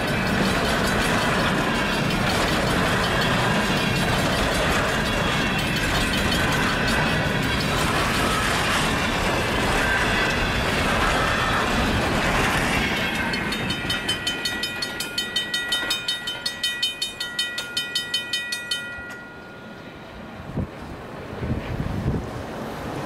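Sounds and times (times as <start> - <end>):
crossing warning bell ringing: 0.0 - 20.6
freight train rolling past: 0.0 - 23.0.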